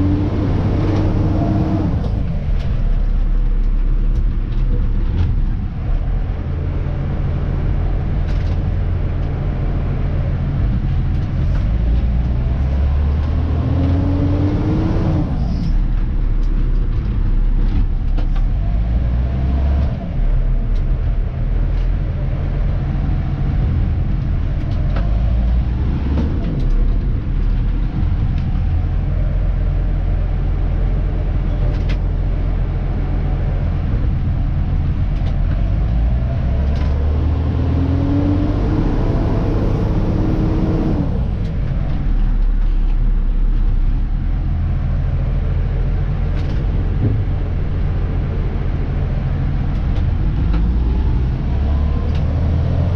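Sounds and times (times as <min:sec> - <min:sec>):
rising and falling whine: 0:00.0 - 0:42.5, 0:43.7 - 0:52.9
truck diesel engine droning: 0:00.0 - 0:52.9.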